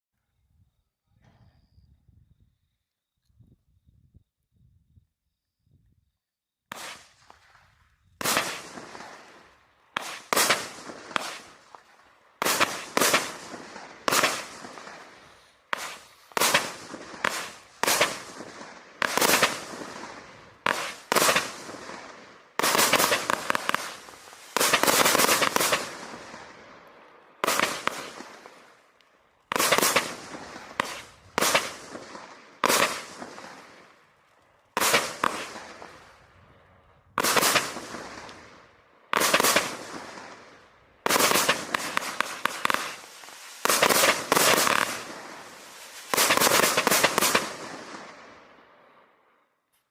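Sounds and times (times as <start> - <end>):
firework bangs: 6.7 - 7.4, 8.2 - 28.9, 29.5 - 36.4, 37.0 - 49.0
firework crackling: 6.7 - 49.3.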